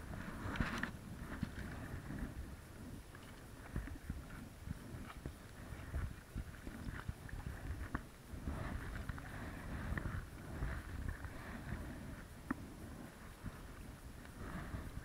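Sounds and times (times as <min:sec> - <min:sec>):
low microphone rumble: 0:00.0 - 0:15.0
paddle strokes swishing water: 0:00.0 - 0:15.0.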